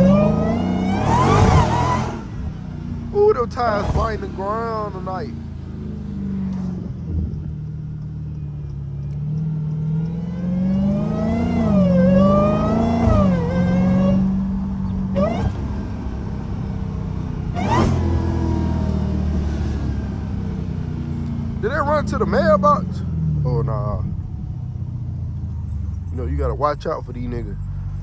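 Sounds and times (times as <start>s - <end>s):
car engine exhaust accelerating: 0.0s - 28.0s.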